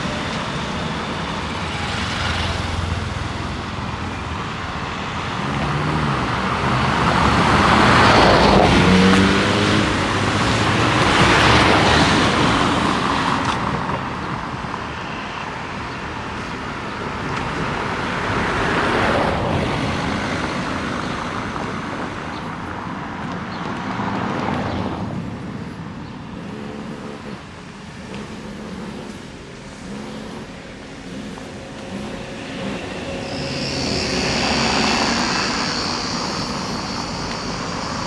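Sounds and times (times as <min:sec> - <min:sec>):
cars passing: 0:00.0 - 0:38.0
vehicle engine hum: 0:00.0 - 0:38.0.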